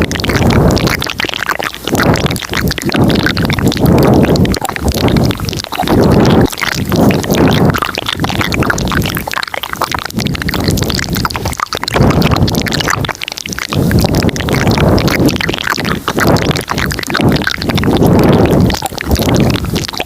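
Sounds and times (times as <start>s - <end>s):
wet mouth clicks and smacks: 0.0s - 20.0s.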